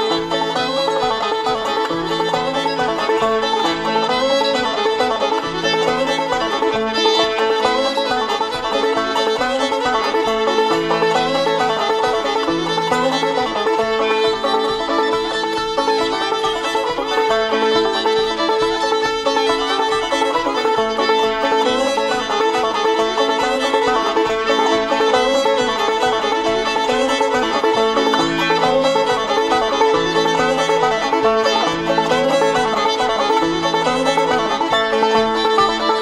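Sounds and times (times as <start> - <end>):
banjo picking: 0.0 - 36.0
fiddle playing: 0.0 - 36.0.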